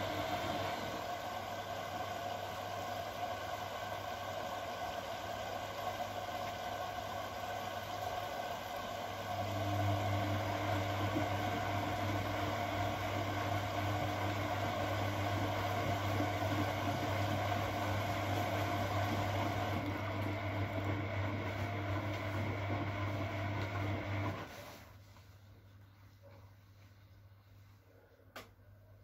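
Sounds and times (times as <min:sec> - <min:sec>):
washing machine humming: 0:00.0 - 0:26.2.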